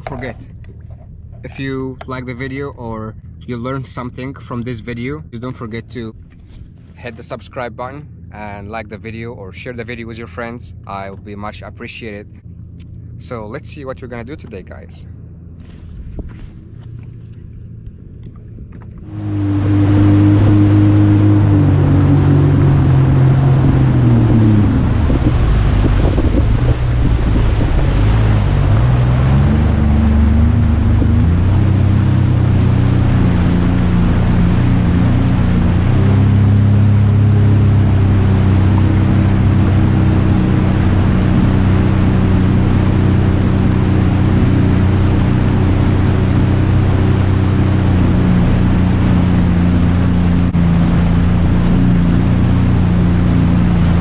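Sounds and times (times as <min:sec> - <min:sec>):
water noise: 0:00.0 - 0:54.0
watercraft engine running: 0:00.0 - 0:54.0
wind: 0:00.0 - 0:54.0.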